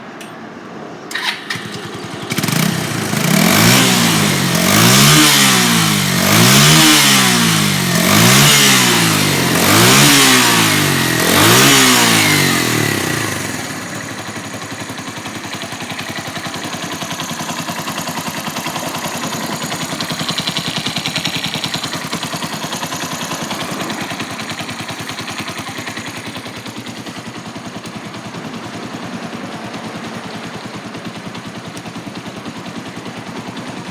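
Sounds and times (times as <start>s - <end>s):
motorcycle engine revving and idling: 1.1s - 33.9s.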